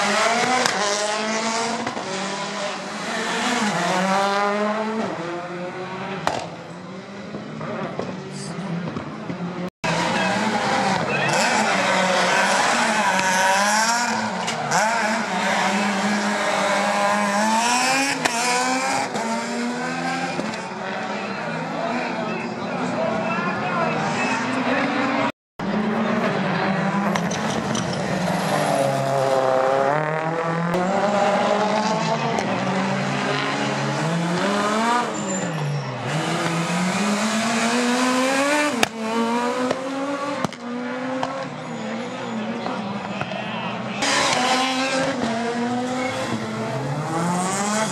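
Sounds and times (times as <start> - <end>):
rally car engine revving: 0.0 - 22.2, 23.9 - 47.9.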